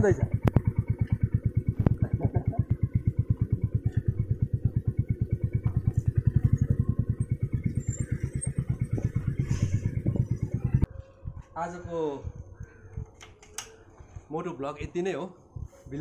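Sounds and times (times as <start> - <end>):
motorcycle engine running slowly: 0.0 - 14.3.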